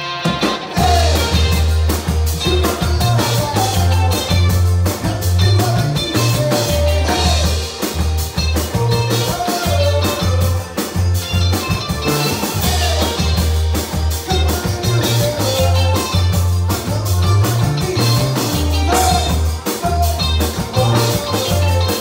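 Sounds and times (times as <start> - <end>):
electric bass notes: 0.0 - 22.0
live rock band playing: 0.0 - 22.0.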